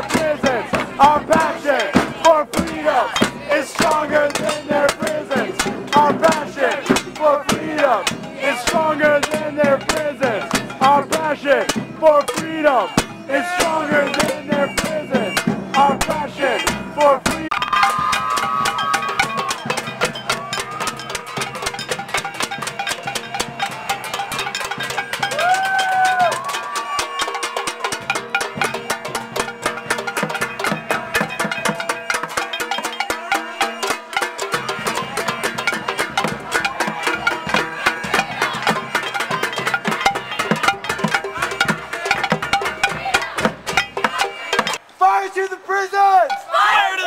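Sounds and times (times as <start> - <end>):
held musical notes: 0.0 - 44.8
crowd banging pots and pans: 0.0 - 44.9, 46.2 - 46.9.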